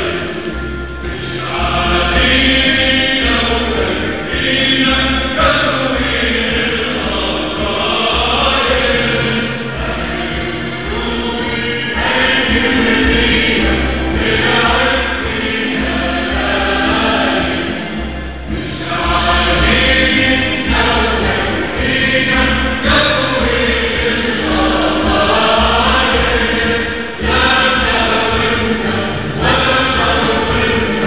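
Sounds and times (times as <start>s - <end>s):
choir singing with instruments: 0.0s - 31.0s
deep bass: 0.0s - 31.0s.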